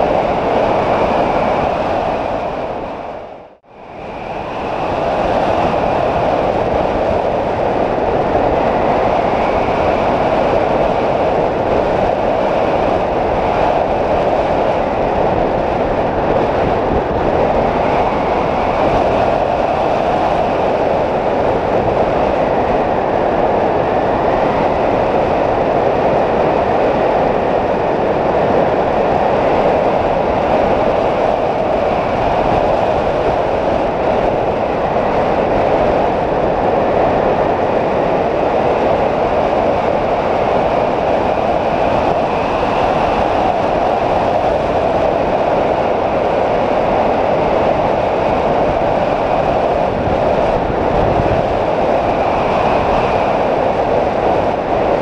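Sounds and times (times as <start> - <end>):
wind rushing past camera: 0.0 - 55.0.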